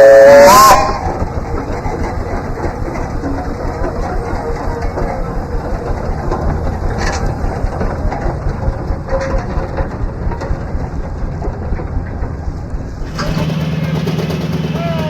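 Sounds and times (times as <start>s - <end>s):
steady low hum: 0.0s - 15.0s
steam engine pulsing rumble: 0.0s - 15.0s.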